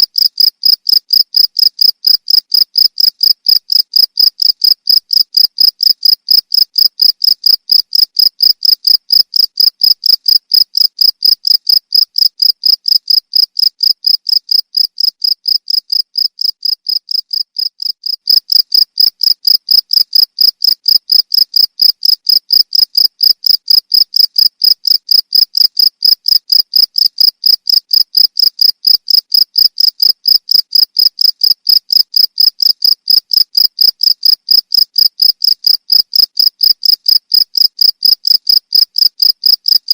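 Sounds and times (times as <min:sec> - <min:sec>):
cricket chirping: 0:00.1 - 0:39.8.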